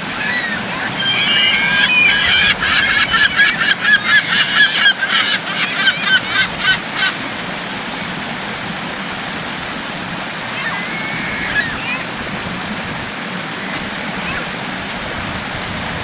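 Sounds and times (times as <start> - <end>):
gulls calling: 0.0 - 8.0, 10.2 - 15.1
rocky stream rushing: 0.0 - 16.0.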